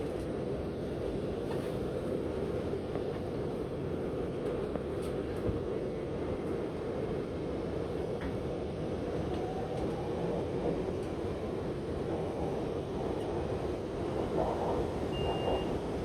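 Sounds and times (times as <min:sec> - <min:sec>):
train car rumble and hum: 0:00.0 - 0:16.0.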